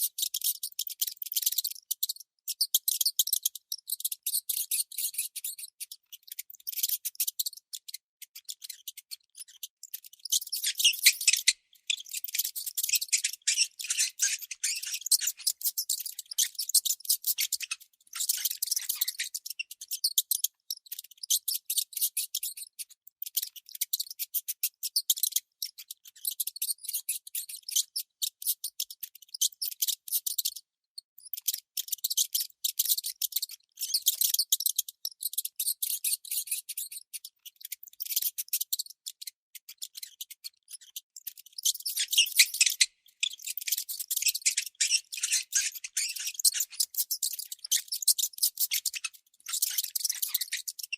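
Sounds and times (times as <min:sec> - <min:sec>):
baby mouse squeaking: 0:00.0 - 0:50.9.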